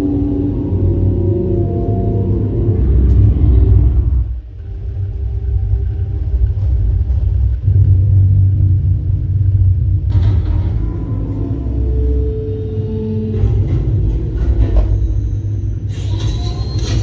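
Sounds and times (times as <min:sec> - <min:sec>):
deep cinematic bass rumble: 0:00.0 - 0:17.0.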